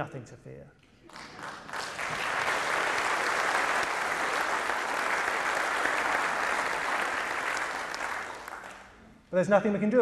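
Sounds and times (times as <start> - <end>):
audience applauding: 1.0 - 9.1.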